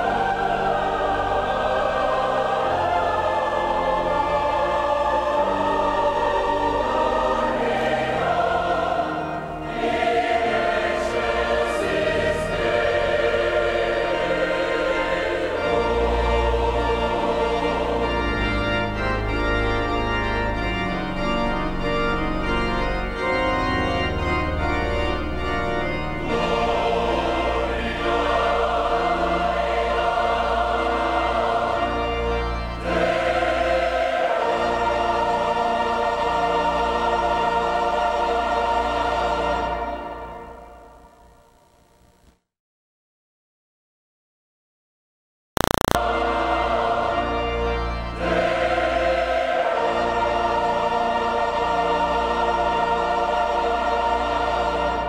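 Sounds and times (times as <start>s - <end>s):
choir singing sacred music: 0.0s - 41.3s, 46.0s - 55.0s
pipe organ: 0.0s - 41.5s, 45.6s - 55.0s.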